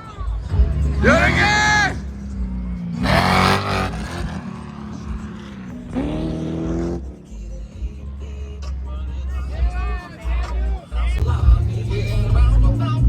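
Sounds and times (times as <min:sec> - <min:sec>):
vehicle engine idling and revving: 0:00.0 - 0:13.0.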